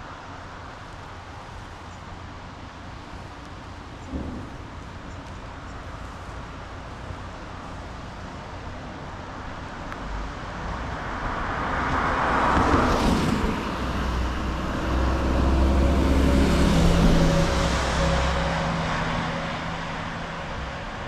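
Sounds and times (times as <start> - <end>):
vehicles passing by: 0.0 - 21.0.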